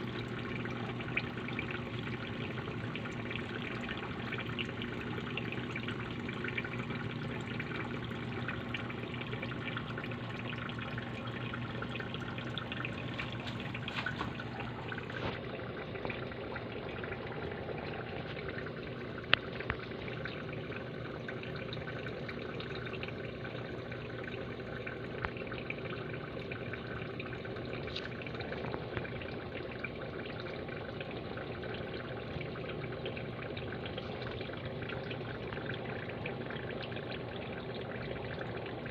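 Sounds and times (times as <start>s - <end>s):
low steady hum: 0.0s - 38.9s
water trickling in aquarium: 0.0s - 38.9s.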